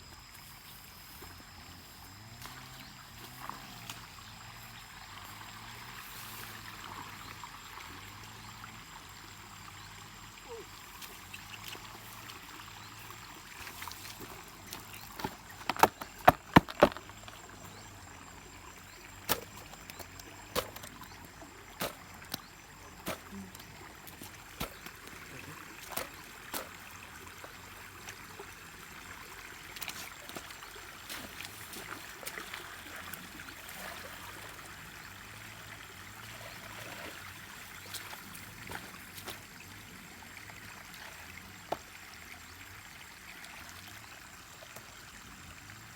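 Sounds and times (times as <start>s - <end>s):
stream water running: 0.0s - 45.9s.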